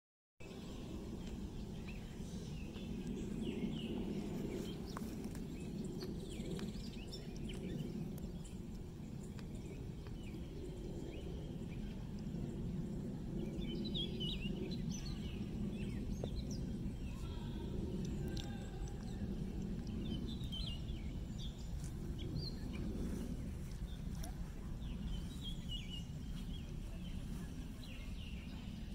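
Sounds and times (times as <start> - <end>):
low rumble: 0.4 - 28.9.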